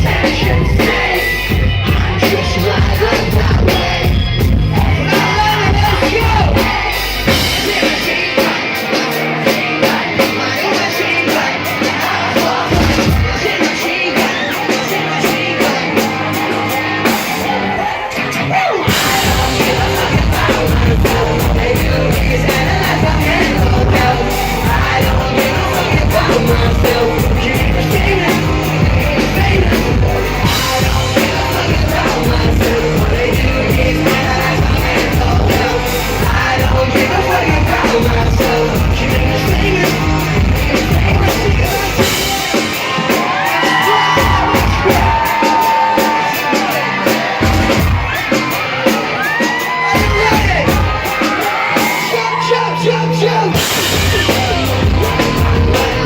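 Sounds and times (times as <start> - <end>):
bass guitar: 0.0 - 56.0
drums: 0.0 - 56.0
electric guitars: 0.0 - 56.0
person singing: 0.0 - 56.0
punk rock band playing: 0.0 - 56.0.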